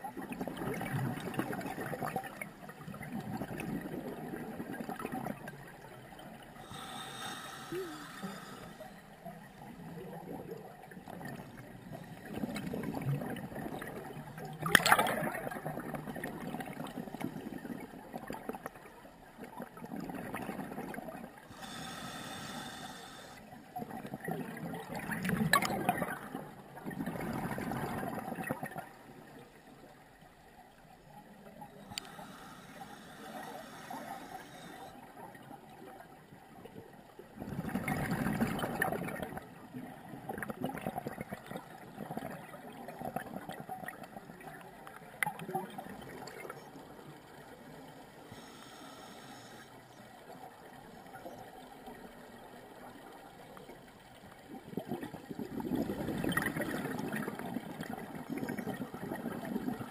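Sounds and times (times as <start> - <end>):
underwater air bubbling: 0.0 - 29.4, 31.3 - 59.9.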